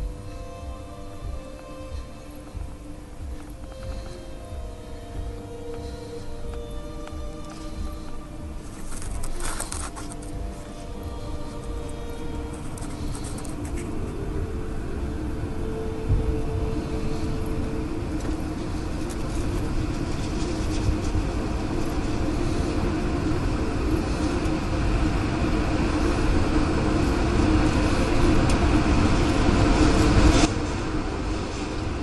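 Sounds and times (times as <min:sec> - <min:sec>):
wind rumble on microphone: 0:00.0 - 0:32.0.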